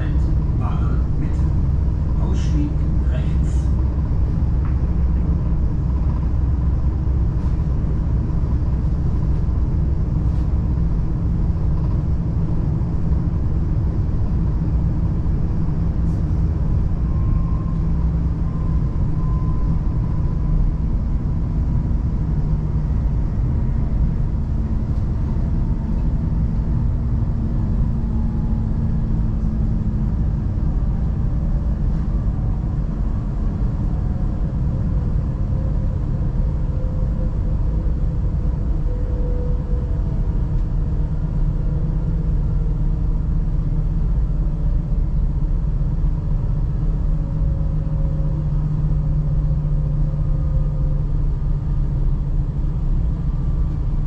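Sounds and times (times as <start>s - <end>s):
faint high whine: 0.0s - 54.0s
train rumble inside carriage: 0.0s - 54.0s.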